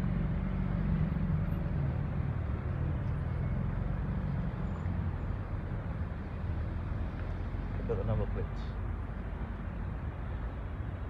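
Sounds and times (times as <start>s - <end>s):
car engines rumbling: 0.0s - 11.0s
street traffic: 0.0s - 11.0s.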